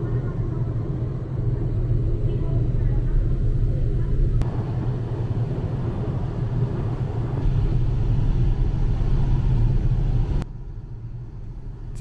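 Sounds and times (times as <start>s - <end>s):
ferry low rumble: 0.0s - 12.0s.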